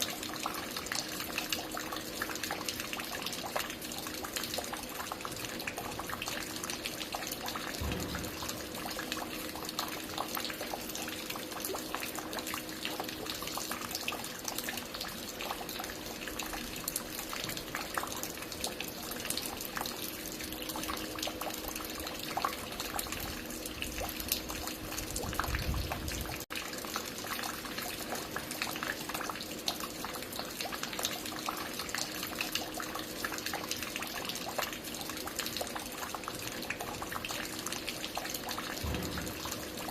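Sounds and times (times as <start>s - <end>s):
water dripping and splashing: 0.0s - 39.9s.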